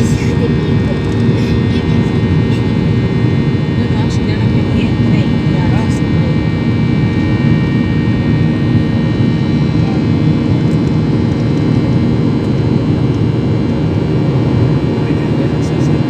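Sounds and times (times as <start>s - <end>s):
airplane cabin engine noise: 0.0s - 16.0s.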